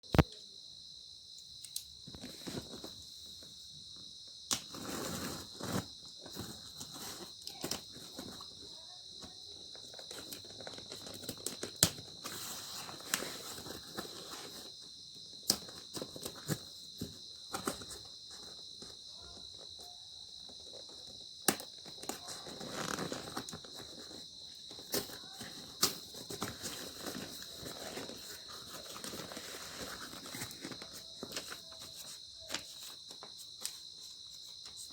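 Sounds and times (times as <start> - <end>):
insect chirring: 0.1 - 34.9.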